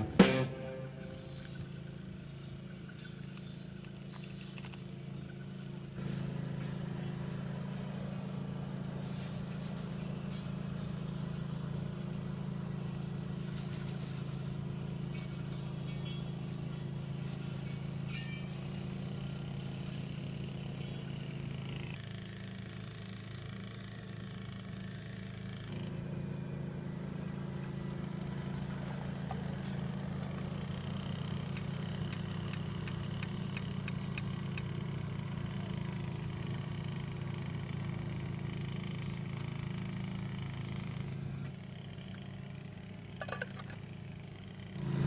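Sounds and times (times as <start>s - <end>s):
engine humming: 0.0s - 45.0s.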